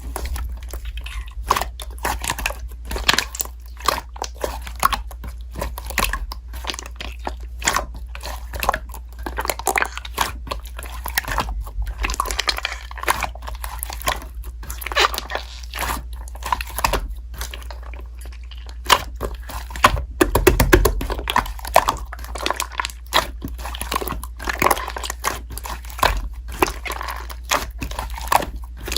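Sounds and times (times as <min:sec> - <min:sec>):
slime crackling and popping: 0:00.0 - 0:28.9.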